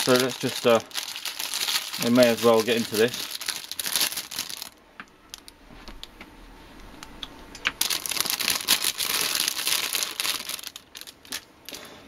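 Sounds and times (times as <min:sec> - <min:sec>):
plastic bag crinkling: 0:00.0 - 0:05.6, 0:07.8 - 0:12.0.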